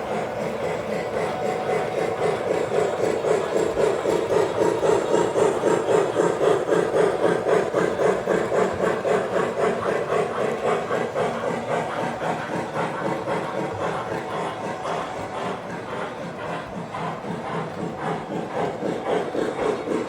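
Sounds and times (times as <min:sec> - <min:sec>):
model train motor hum: 0:00.0 - 0:20.0.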